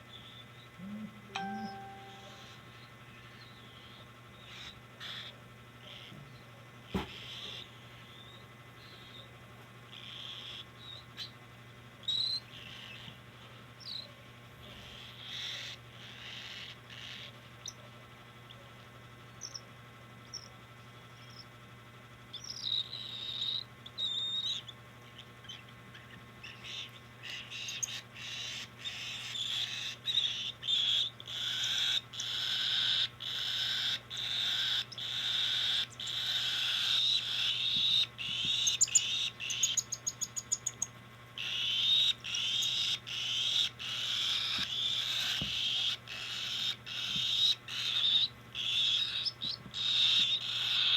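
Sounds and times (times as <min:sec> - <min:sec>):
cockatiel chicks begging calls: 0:02.0 - 0:09.2, 0:09.9 - 0:11.4, 0:12.0 - 0:17.8, 0:22.3 - 0:50.9.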